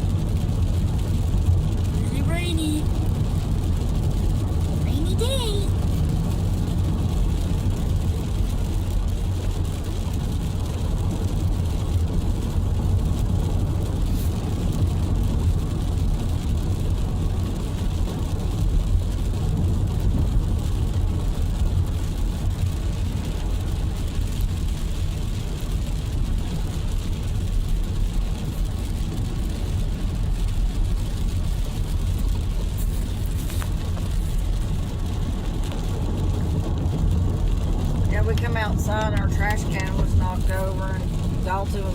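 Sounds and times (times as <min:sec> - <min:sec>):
car interior engine and road rumble: 0:00.0 - 0:41.9.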